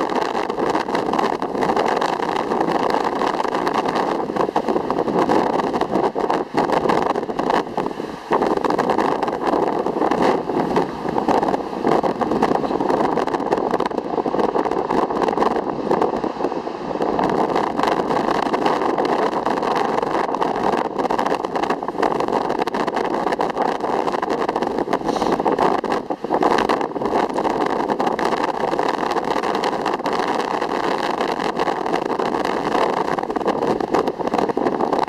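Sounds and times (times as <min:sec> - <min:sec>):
ocean water rushing: 0:00.0 - 0:35.0
wind buffeting: 0:00.0 - 0:35.0.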